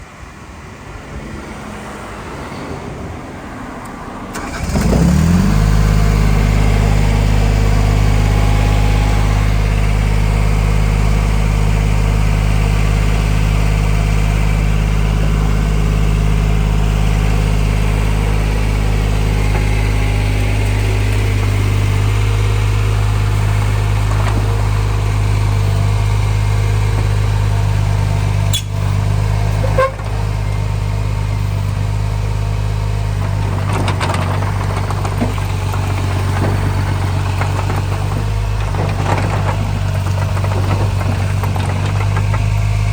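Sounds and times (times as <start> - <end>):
diesel engine starting and running: 0.0 - 42.9.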